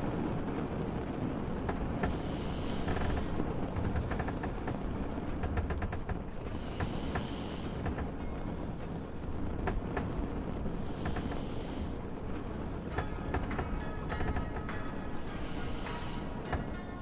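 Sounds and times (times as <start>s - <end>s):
rain dripping: 0.0s - 17.0s
steady low rumble: 0.0s - 17.0s.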